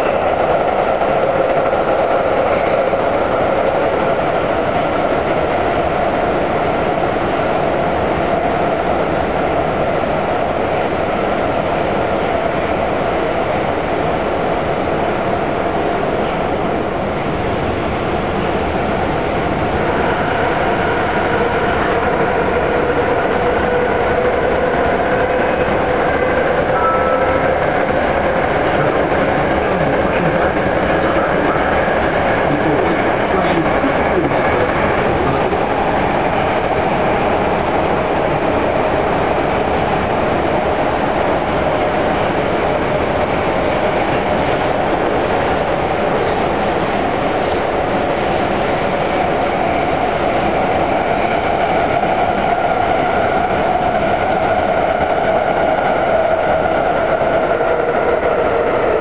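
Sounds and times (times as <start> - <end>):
metro train rumbling and whining: 0.0 - 59.0.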